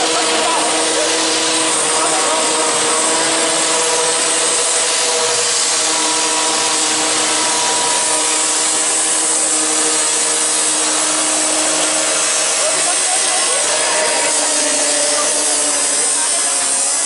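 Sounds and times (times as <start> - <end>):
disc cutter grinding steel: 0.0 - 17.0.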